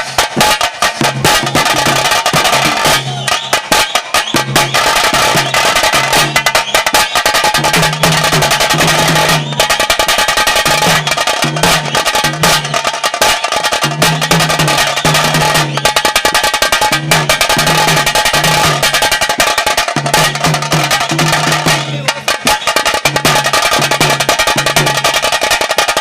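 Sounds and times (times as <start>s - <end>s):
stick-beaten drums: 0.0s - 26.0s.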